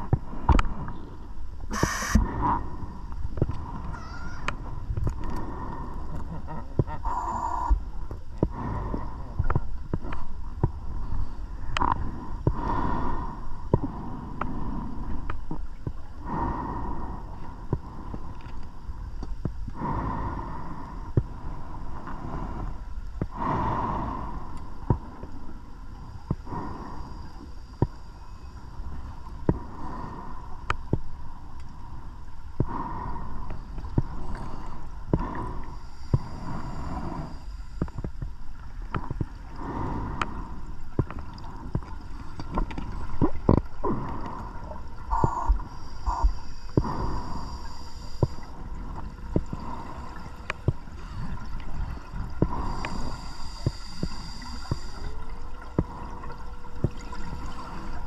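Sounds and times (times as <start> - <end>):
low underwater rumble: 0.0 - 58.0.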